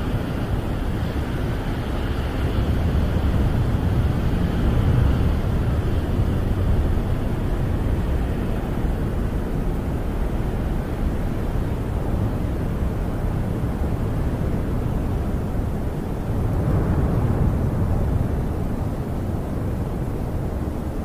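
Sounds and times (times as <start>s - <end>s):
wind rumbling against camper: 0.0s - 21.0s.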